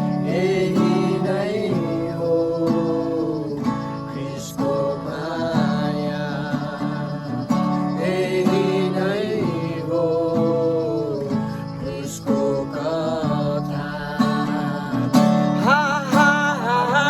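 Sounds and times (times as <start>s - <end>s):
worship song with acoustic guitar: 0.0s - 17.0s.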